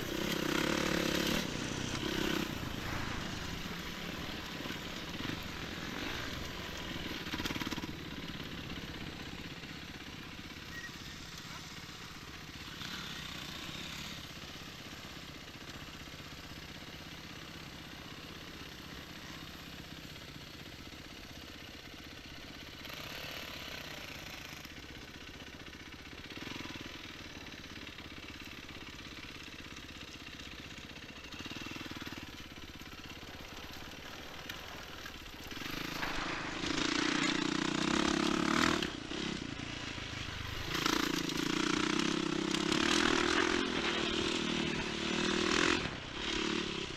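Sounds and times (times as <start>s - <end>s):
motorcycle engines running: 0.0s - 46.9s.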